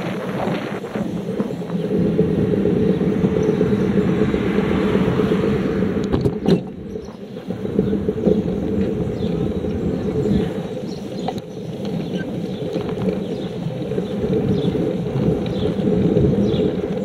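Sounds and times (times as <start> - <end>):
motorbike engine running: 0.0 - 17.0
wind rushing over microphone: 0.0 - 17.0.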